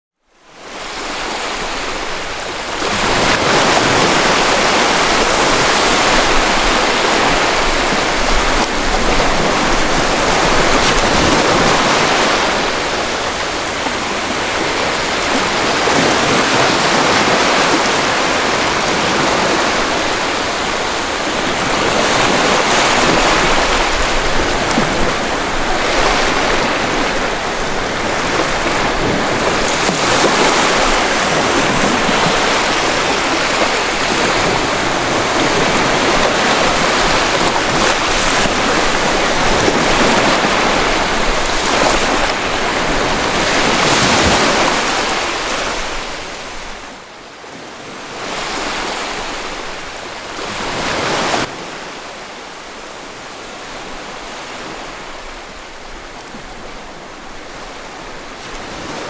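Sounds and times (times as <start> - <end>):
sea waves breaking on shore: 0.3 - 59.0.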